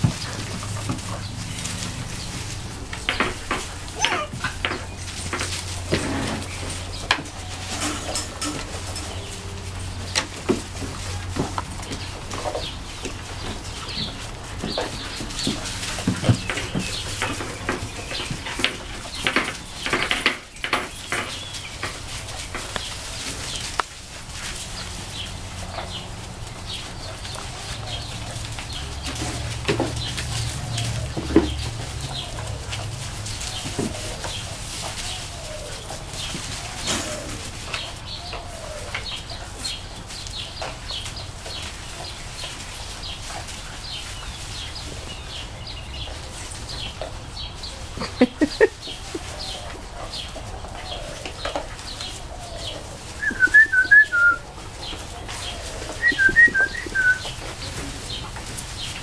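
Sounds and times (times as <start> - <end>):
puppies squeaking and yipping: 0.0 - 10.2, 10.8 - 59.0
puppies scuffling: 0.0 - 59.0
small birds chirping: 0.0 - 59.0.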